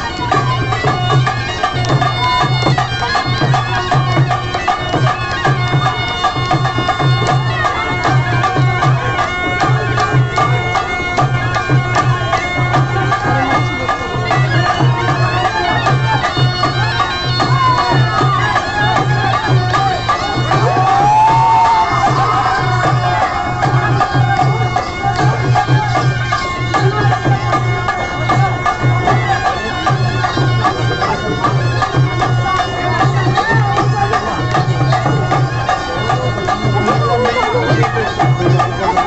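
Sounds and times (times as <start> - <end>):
reedy wind instrument melody: 0.0 - 39.0
repeating drum beat: 0.0 - 39.0.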